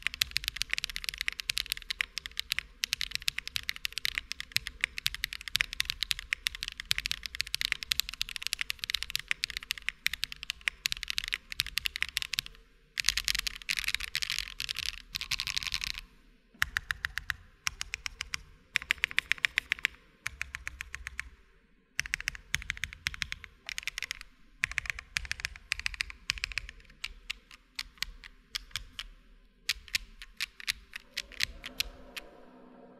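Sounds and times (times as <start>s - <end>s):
fast typing on mechanical keyboard: 0.0s - 16.0s, 16.6s - 21.3s, 22.0s - 29.1s, 29.7s - 32.0s.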